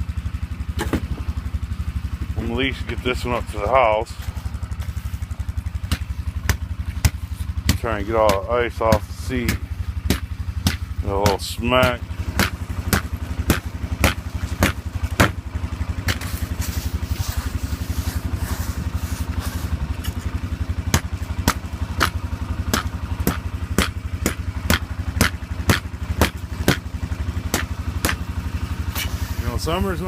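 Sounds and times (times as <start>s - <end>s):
atv engine idling: 0.0s - 30.0s.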